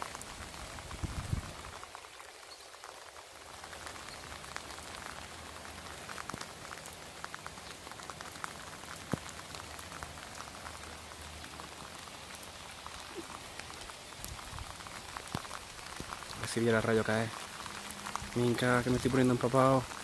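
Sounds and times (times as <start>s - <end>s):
sharp taps of raindrops: 0.0s - 20.0s
steady rain falling: 0.0s - 20.0s.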